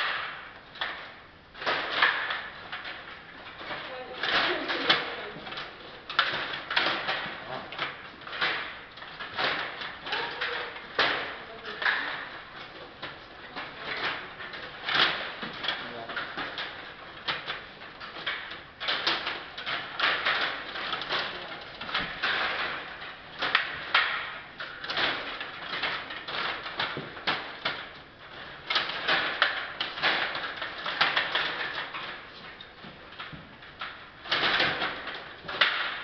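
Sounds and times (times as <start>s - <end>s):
table hockey game clattering: 0.0s - 36.0s.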